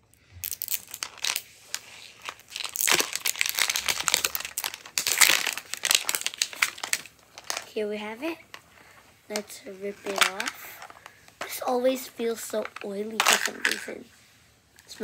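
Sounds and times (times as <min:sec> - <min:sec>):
plastic wrapping crinkling and tearing: 0:00.0 - 0:07.8, 0:08.4 - 0:11.6, 0:12.5 - 0:14.0.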